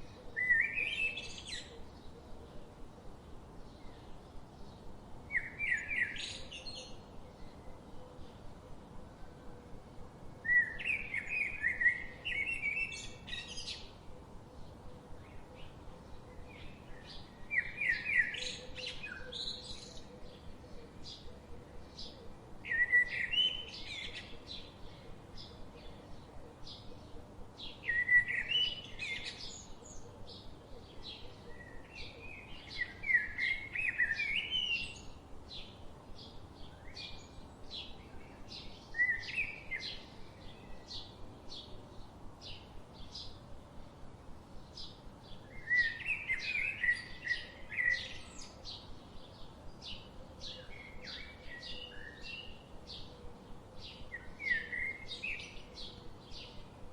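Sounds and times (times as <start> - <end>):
birds warbling song: 0.0 - 9.4, 10.4 - 56.9.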